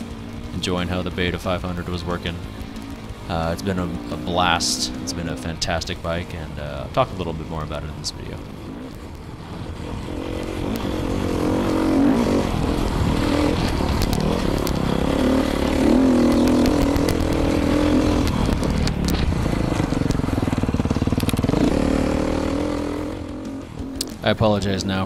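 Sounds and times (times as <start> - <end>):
dirt bike engine revving: 0.0 - 24.2.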